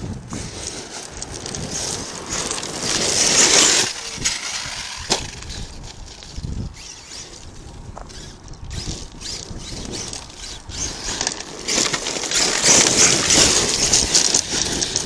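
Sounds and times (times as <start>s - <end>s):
dirt and gravel crunching: 0.0s - 15.0s.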